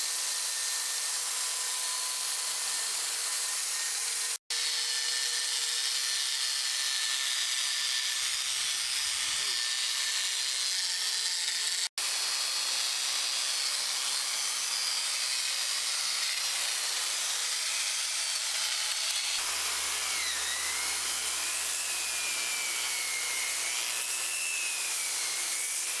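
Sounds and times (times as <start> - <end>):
power carver grinding wood: 0.0 - 26.0.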